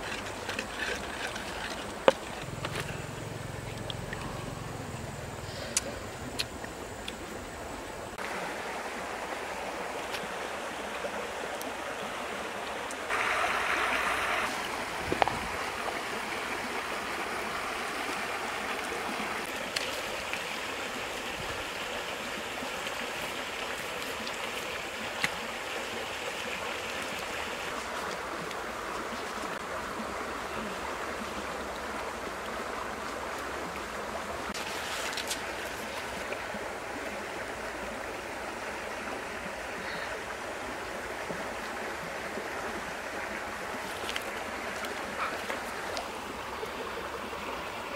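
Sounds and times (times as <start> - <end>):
river flowing over rocks: 6.0 - 47.9.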